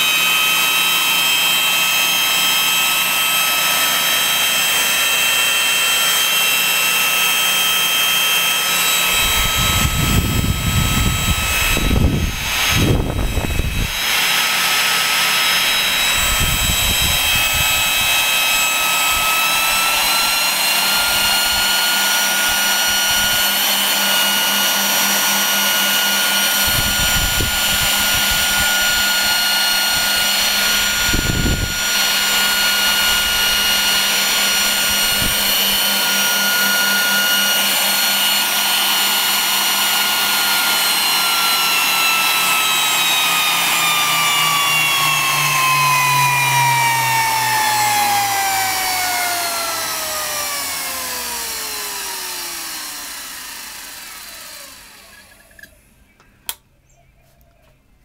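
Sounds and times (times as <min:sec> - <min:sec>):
vacuum cleaner motors whining: 0:00.0 - 0:56.2.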